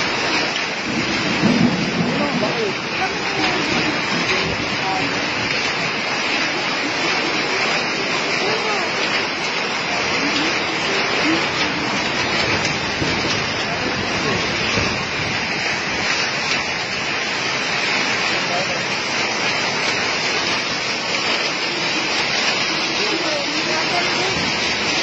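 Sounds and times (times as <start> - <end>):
hail and rain on pavement: 0.0 - 25.0.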